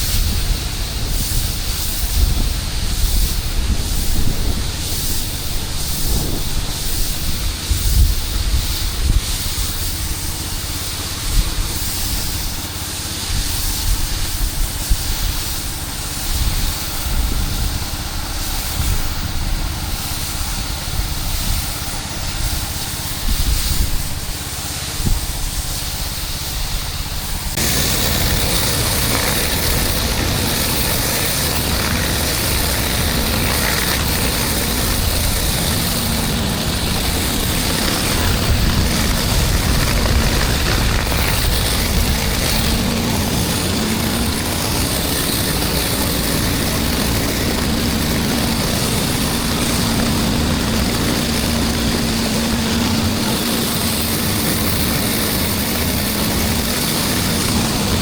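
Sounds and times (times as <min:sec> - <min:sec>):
pressure washer drone: 0:00.0 - 0:58.0
water spray hissing on concrete: 0:00.0 - 0:58.0.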